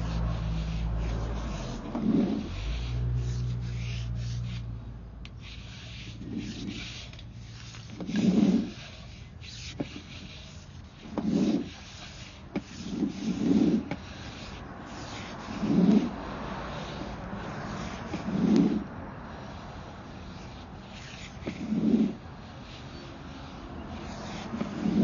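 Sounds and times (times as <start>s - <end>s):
cable scraping in drain pipe: 0.0s - 4.7s, 5.3s - 25.0s.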